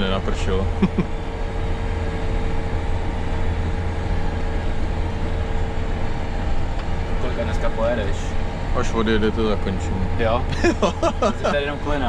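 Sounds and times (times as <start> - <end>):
steady whine: 0.0 - 12.0
tractor engine drone: 0.0 - 12.0.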